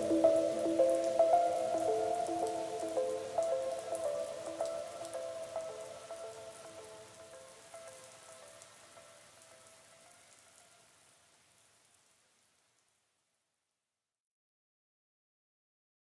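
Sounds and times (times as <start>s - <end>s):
rain-like patter and hiss: 0.0s - 13.7s.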